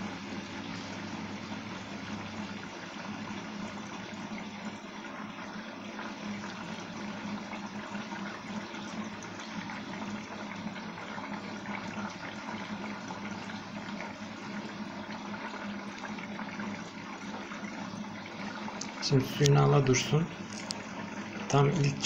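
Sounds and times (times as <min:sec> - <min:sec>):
water rushing into washing machine: 0:00.0 - 0:22.0.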